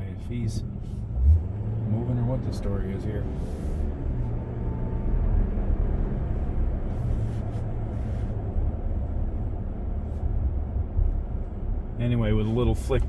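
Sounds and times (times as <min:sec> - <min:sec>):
road and tyre rumble in cabin: 0:00.0 - 0:13.0.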